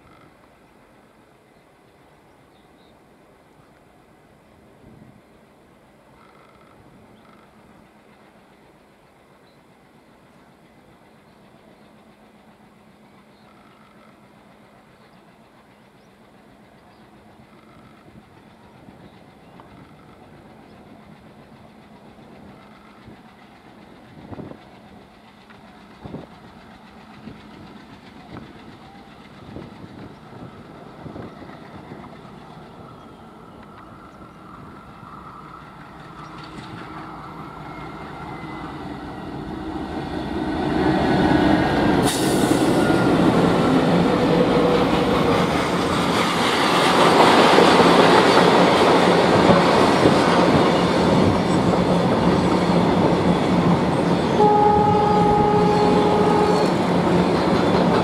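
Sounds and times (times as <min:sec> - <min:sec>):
diesel locomotives passing: 0:00.0 - 0:58.0.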